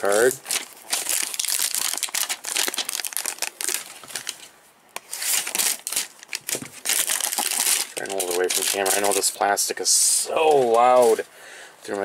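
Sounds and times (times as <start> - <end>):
plastic wrapper crinkling: 0.0 - 11.2.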